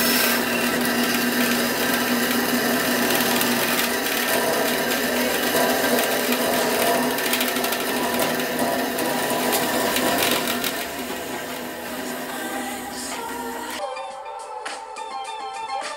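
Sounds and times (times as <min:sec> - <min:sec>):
bandsaw motor hum: 0:00.0 - 0:13.8
saw blade rasping through wood: 0:00.0 - 0:13.8.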